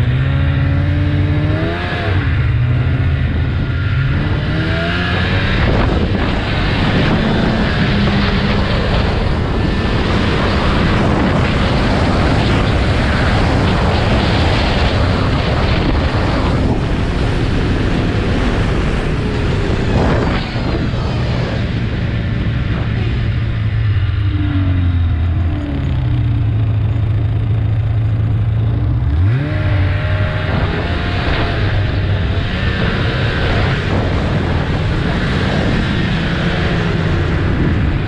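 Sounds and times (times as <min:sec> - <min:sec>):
snowmobile engine running: 0:00.0 - 0:38.0.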